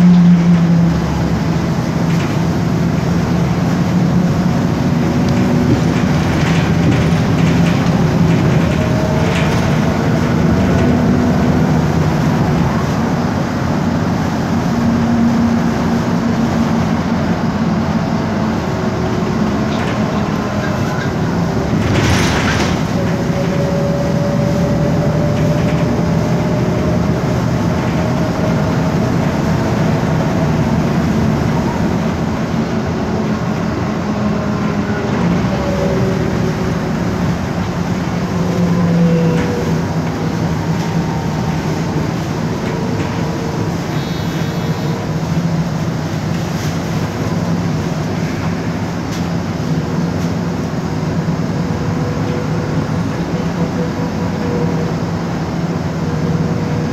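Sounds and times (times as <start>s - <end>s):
bus engine low drone: 0.0s - 56.9s.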